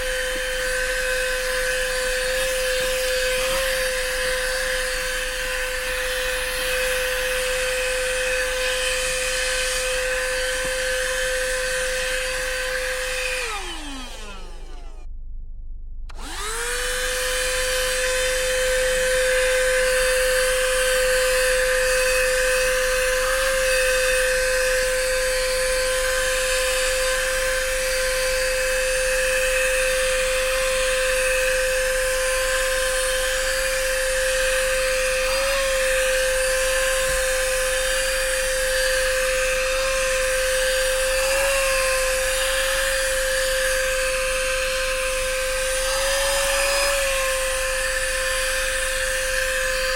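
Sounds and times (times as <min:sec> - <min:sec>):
handheld vacuum cleaner whine: 0:00.0 - 0:15.1, 0:16.1 - 0:49.9.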